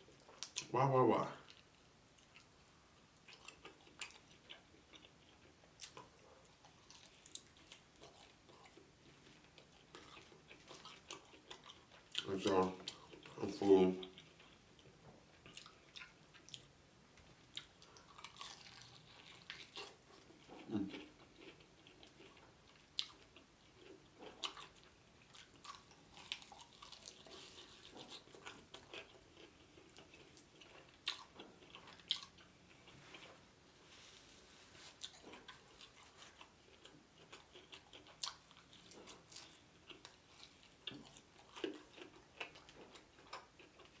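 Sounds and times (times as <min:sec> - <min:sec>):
faint chewing and mouth sounds: 0:00.0 - 0:44.0.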